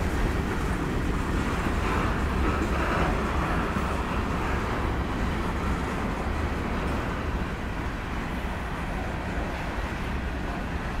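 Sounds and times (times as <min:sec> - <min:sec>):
freight train rolling past: 0:00.0 - 0:11.0
steel wheels rumbling on rails: 0:00.0 - 0:11.0.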